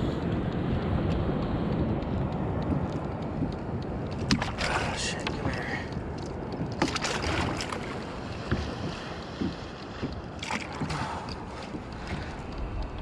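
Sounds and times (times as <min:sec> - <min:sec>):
water splashing around kayak: 0:00.0 - 0:13.0
wind on microphone: 0:00.0 - 0:13.0.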